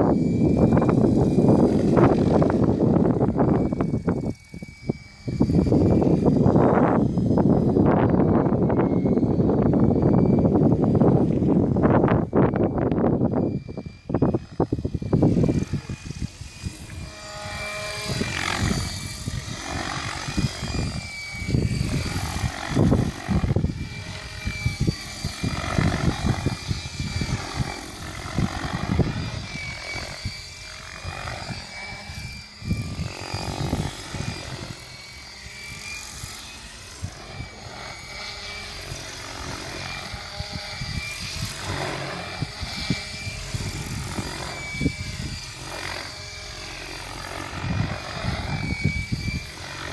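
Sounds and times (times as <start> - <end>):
rc helicopter motor whine: 0.0 - 49.9.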